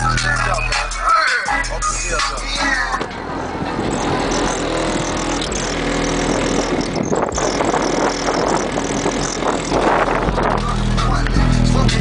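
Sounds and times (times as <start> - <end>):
hip hop from car subwoofers: 0.0 - 12.0.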